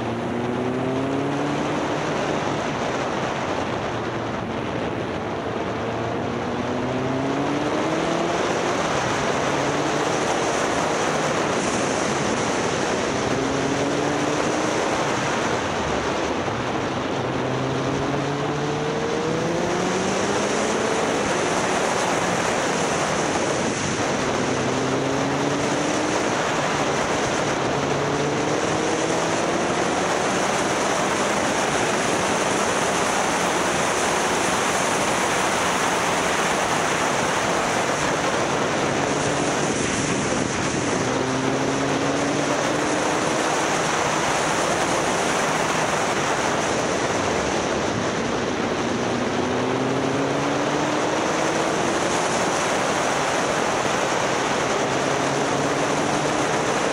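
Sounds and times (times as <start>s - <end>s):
motorcycle engine accelerating: 0.0s - 56.9s
wind noise on microphone: 0.0s - 56.9s.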